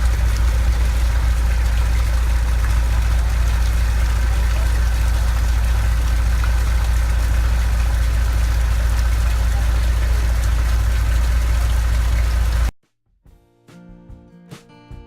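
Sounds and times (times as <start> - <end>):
boat engine humming: 0.0 - 12.7.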